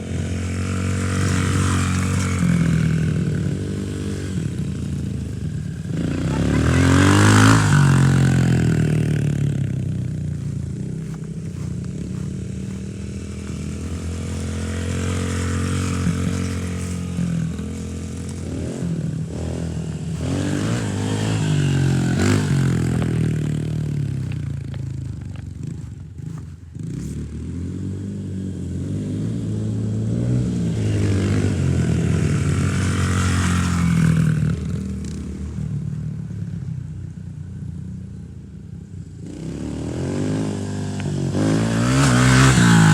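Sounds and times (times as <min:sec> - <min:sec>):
dirt bike engine revving: 0:00.0 - 0:35.6, 0:39.3 - 0:42.9.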